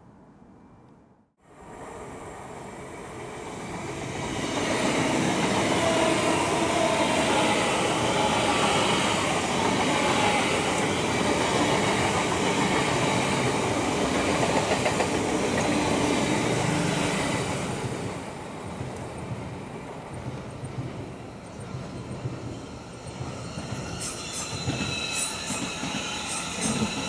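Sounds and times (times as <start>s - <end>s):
train wheels rumbling on rails: 2.0s - 27.0s.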